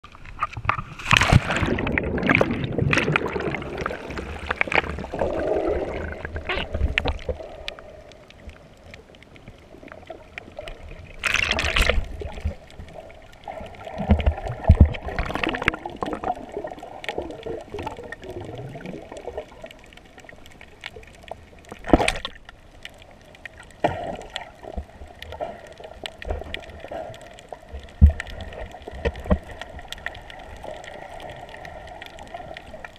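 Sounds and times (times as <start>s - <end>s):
underwater gurgling: 0.0s - 32.9s
water rushes: 0.0s - 32.9s.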